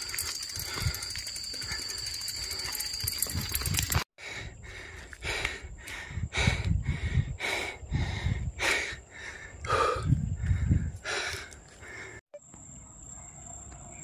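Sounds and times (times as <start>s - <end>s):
person panting: 0.0s - 12.2s.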